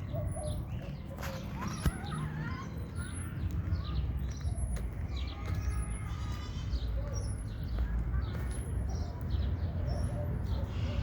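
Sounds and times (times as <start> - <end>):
birds chirping and calling: 0.0 - 11.0.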